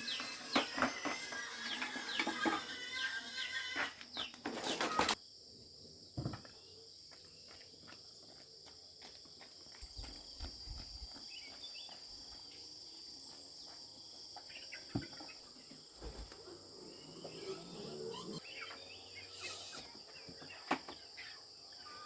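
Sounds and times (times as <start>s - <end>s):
chorus of insects: 0.0s - 22.0s.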